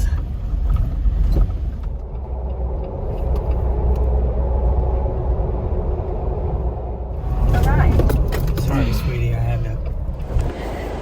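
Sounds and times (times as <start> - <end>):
car engine rumble and hum: 0.0 - 11.0.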